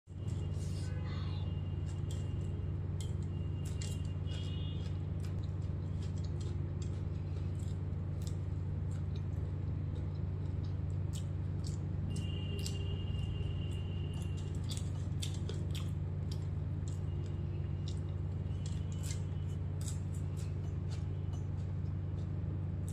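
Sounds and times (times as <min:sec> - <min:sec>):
low electrical hum: 0:00.1 - 0:22.9
chewing: 0:01.8 - 0:22.9.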